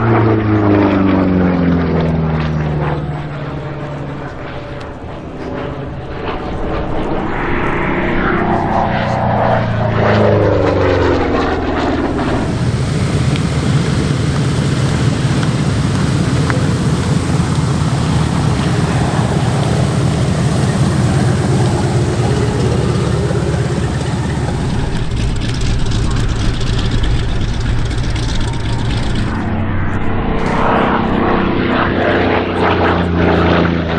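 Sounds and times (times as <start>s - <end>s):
propeller aircraft engine drone: 0.0s - 33.9s.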